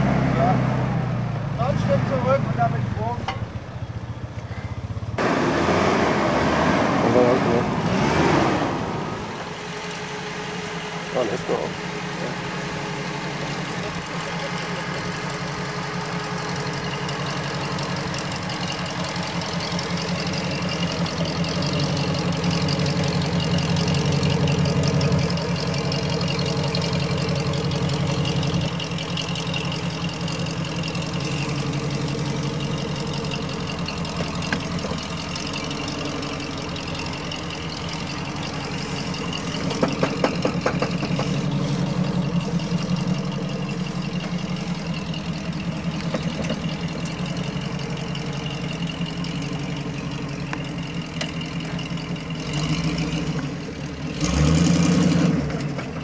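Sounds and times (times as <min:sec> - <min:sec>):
jeep engine running: 0:00.0 - 0:56.0.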